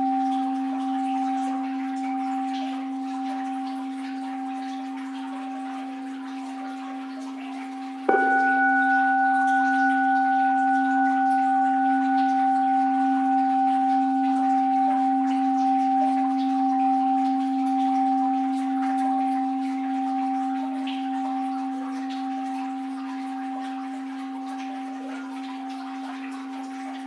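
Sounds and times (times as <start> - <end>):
bowl bell ringing: 0.0 - 27.0.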